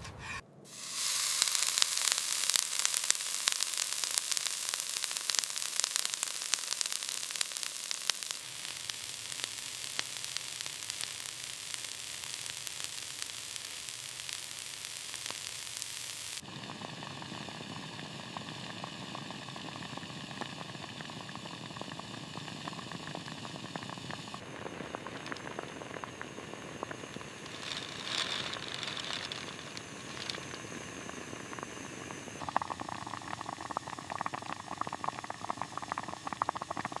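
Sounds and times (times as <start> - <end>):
food sizzling in a pan: 0.7 - 37.0.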